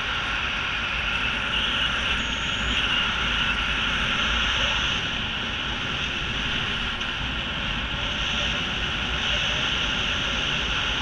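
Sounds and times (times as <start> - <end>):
wind buffeting rumble: 0.0 - 11.0
wind rushing over microphone: 0.0 - 11.0.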